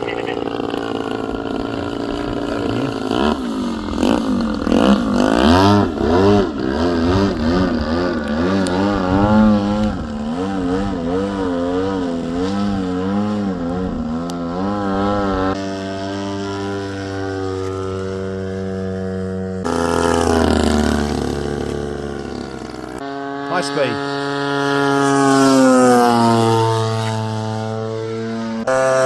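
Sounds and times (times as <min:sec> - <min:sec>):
model aircraft engine: 0:00.0 - 0:29.0.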